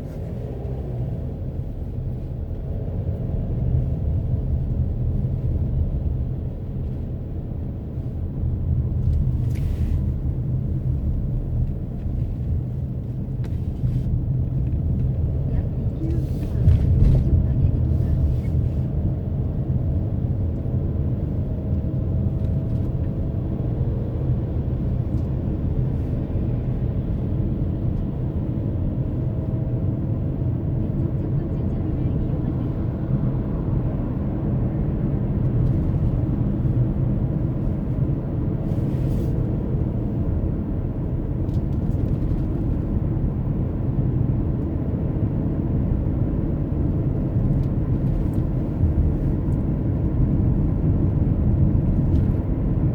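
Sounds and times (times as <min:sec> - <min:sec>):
car engine and tyre noise: 0:00.0 - 0:52.9.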